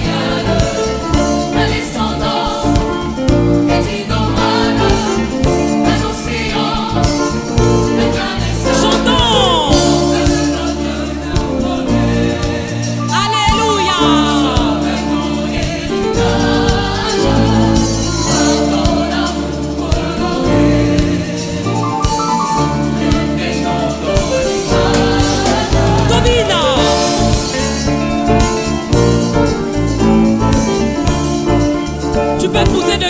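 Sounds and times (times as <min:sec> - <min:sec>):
choir singing gospel: 0:00.0 - 0:33.0
instrumental accompaniment with bass: 0:00.0 - 0:33.0.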